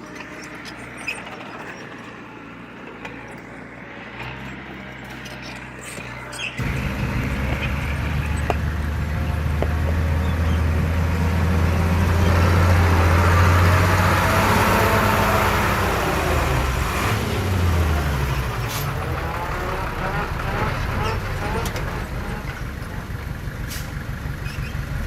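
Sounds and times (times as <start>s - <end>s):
heavy diesel engine droning: 0.0s - 25.0s.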